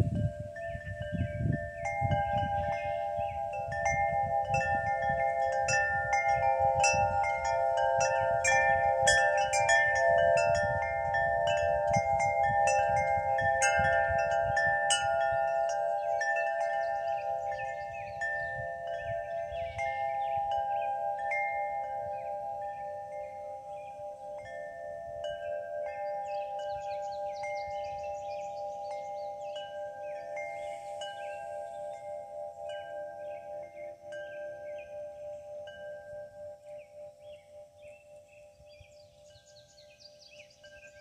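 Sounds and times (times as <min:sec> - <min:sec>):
wind chimes ringing: 0:00.0 - 0:41.0
wind gusts on microphone: 0:00.0 - 0:41.0.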